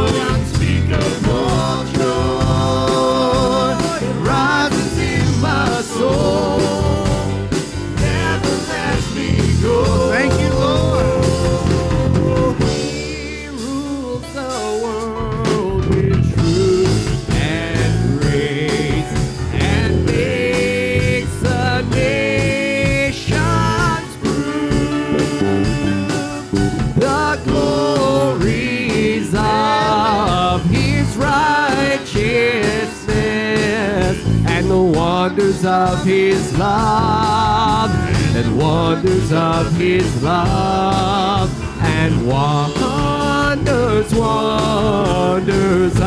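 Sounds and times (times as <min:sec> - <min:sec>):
church band playing gospel: 0:00.0 - 0:46.0
person singing: 0:00.0 - 0:46.0.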